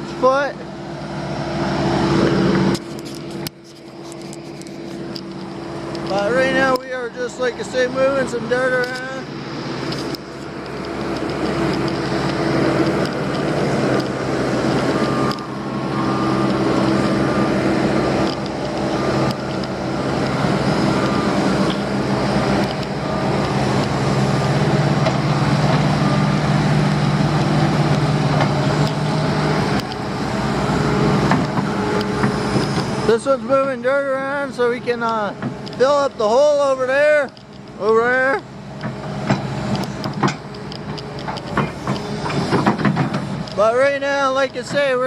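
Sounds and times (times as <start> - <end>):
heavy diesel machinery engine: 0.0 - 45.0.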